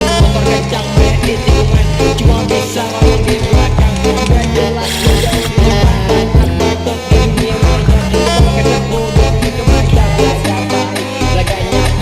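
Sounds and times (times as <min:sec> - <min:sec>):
music with strong bass beat: 0:00.0 - 0:12.0.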